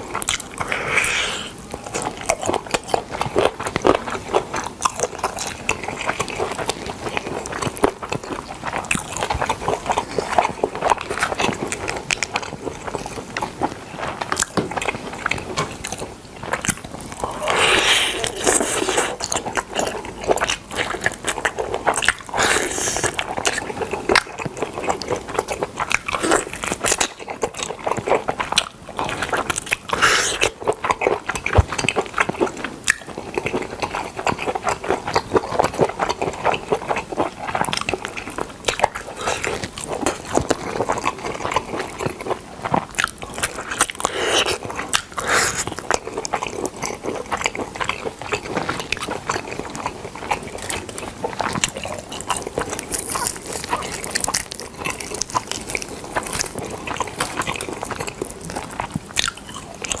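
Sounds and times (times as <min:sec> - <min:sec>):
person chewing food: 0:00.0 - 1:00.0.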